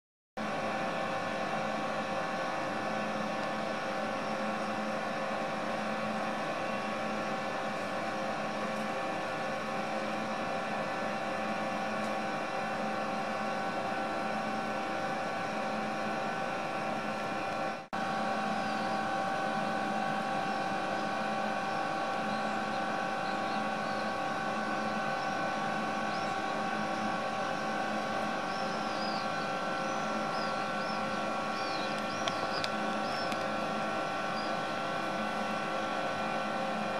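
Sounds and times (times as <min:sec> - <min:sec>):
mechanical hum with hiss: 0:00.4 - 0:36.9.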